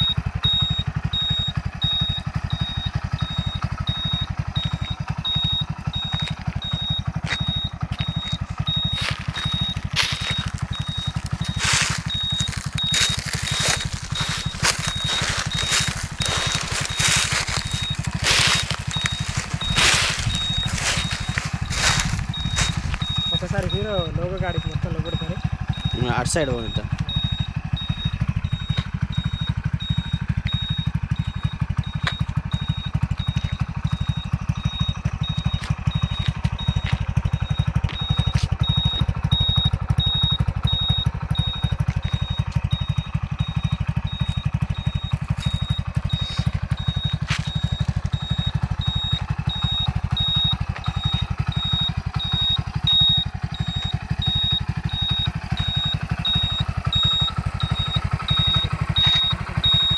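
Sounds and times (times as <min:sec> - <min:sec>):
high beeping: 0:00.0 - 0:59.9
motorcycle engine idling: 0:00.0 - 0:59.9.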